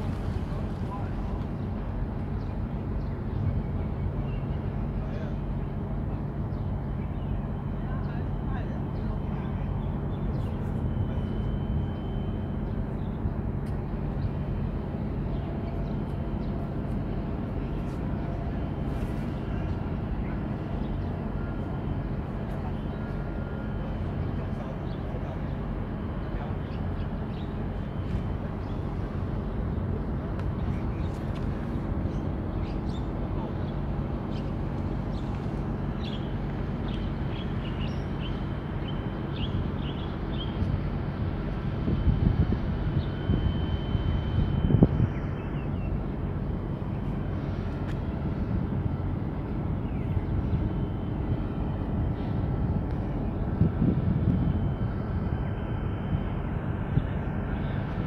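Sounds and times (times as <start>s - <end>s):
ship engines rumbling: 0.0s - 58.0s.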